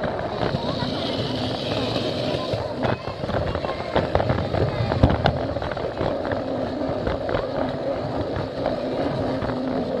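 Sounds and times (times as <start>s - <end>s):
crowd chatter: 0.0s - 10.0s
toy train motor humming: 0.0s - 10.0s.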